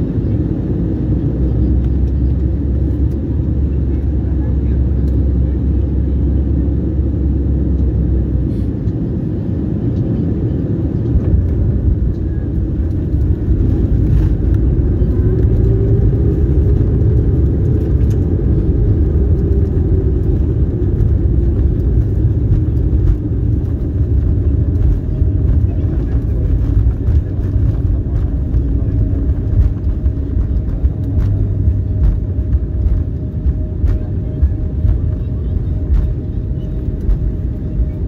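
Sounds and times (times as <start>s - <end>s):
jet engine and airflow rumble: 0.0s - 38.0s.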